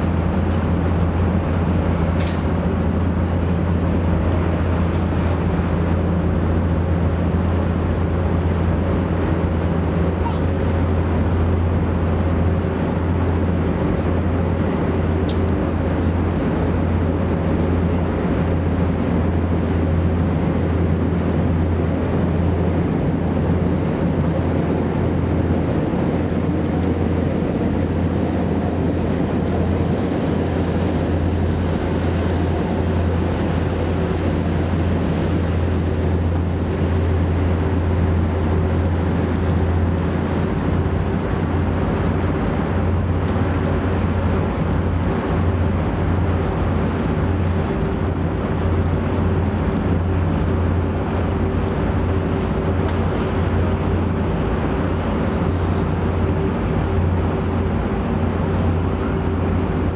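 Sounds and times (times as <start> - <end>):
boat engine droning: 0.0 - 59.9
rushing water and air: 0.0 - 59.9.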